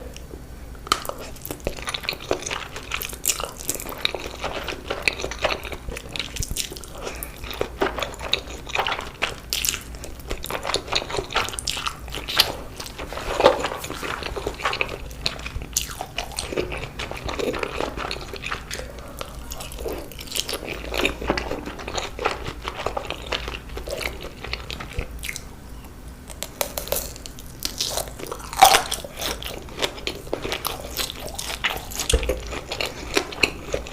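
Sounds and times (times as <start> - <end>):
person chewing noodles: 0.0 - 33.9.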